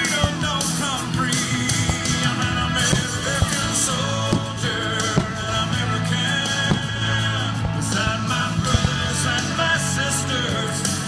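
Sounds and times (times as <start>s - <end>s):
country-rock song: 0.0s - 11.0s.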